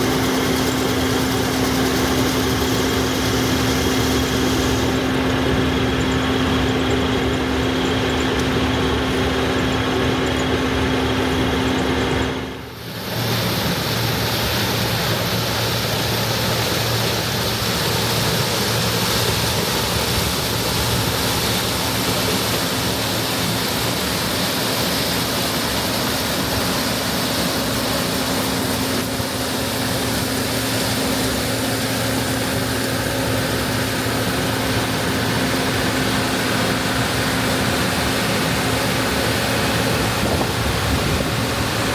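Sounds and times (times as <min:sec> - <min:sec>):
combine harvester drone: 0:00.0 - 0:41.9.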